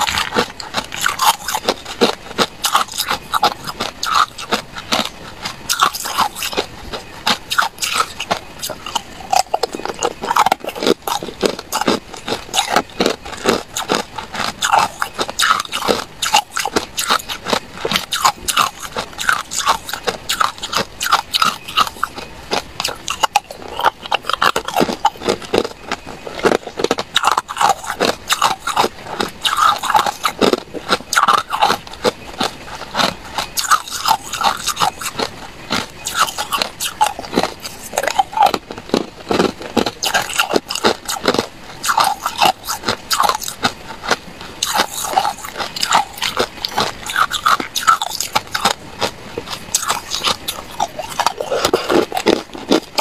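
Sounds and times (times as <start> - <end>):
ice cubes crunching between teeth: 0.0 - 53.0.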